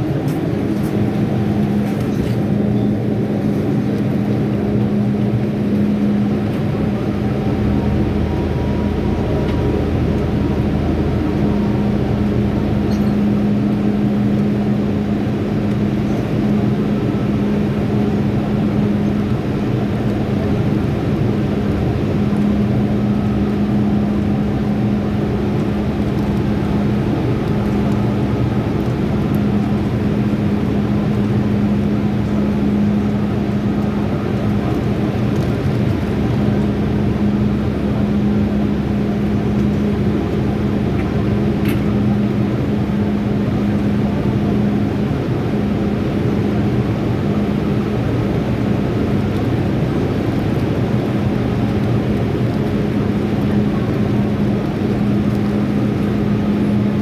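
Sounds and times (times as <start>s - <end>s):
deep rumble: 0.0s - 57.0s
station platform hum: 0.0s - 57.0s.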